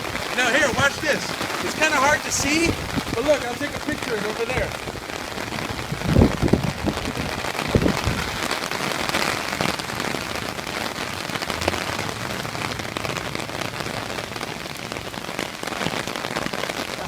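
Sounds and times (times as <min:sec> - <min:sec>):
heavy rain on hard surfaces: 0:00.0 - 0:17.0.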